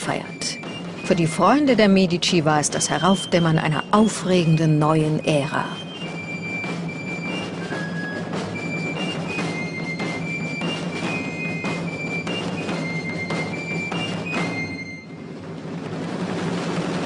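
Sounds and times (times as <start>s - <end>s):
high stepping melody: 0.0s - 15.4s
steady drum beat: 0.0s - 17.0s.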